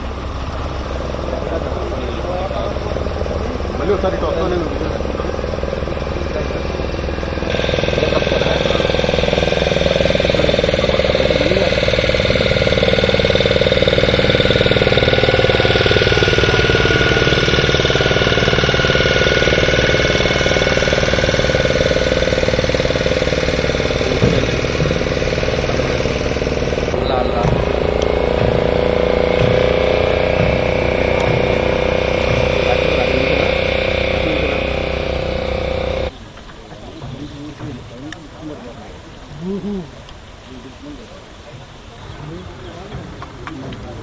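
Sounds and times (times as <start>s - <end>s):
loud engine running: 0.0s - 36.2s.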